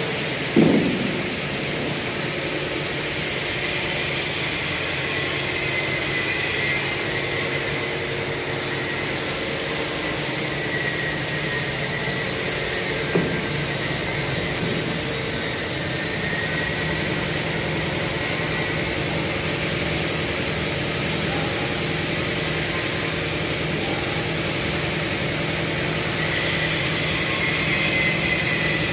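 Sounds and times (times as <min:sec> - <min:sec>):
furnace line mechanical rush: 0:00.0 - 0:28.9.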